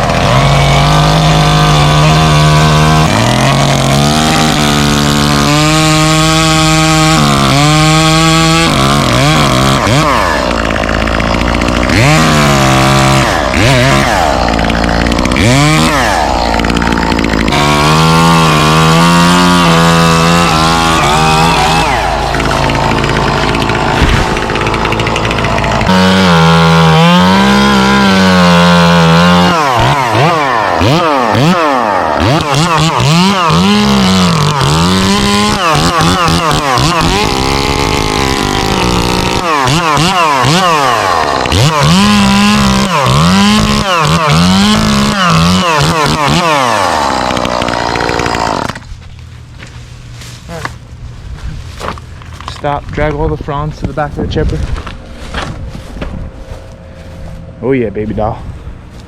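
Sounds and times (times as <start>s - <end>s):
chainsaw cutting: 0.0s - 50.9s, 51.6s - 59.0s.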